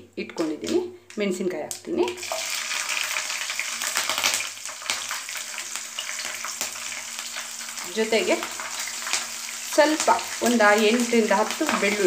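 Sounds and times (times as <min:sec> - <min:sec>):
chillies sizzling in hot oil: 0:00.4 - 0:12.0.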